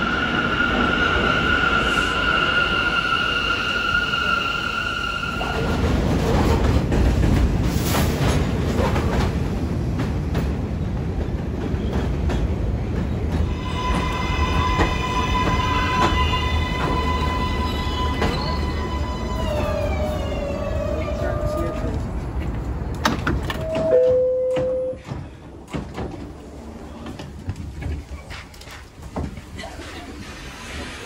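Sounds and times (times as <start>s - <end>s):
subway train rumbling on rails: 0.0s - 31.0s.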